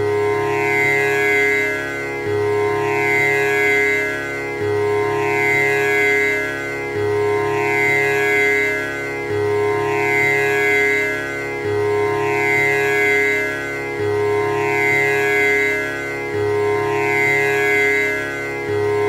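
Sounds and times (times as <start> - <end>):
tanpura drone: 0.0 - 19.0.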